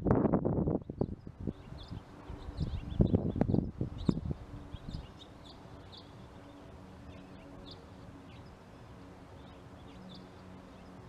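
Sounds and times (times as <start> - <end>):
low steady hum: 0.0 - 11.0
small birds chirping: 0.7 - 11.0.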